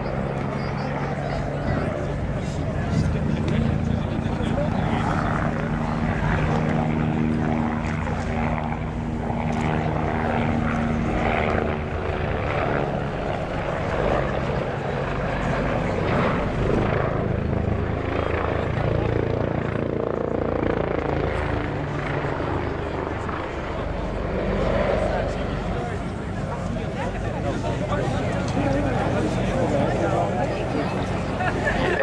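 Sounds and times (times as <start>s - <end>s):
helicopter rotor chop: 0.0s - 32.0s.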